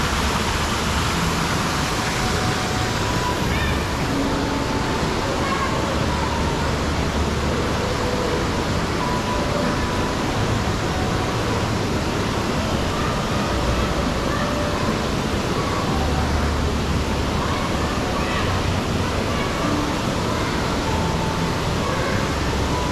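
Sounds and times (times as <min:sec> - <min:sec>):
water rushing in pool: 0:00.0 - 0:22.9.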